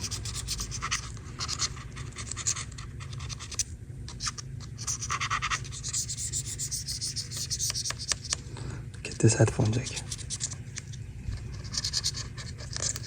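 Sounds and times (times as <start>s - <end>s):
tool scratching grime: 0.0s - 3.6s, 4.2s - 8.4s, 9.4s - 13.0s.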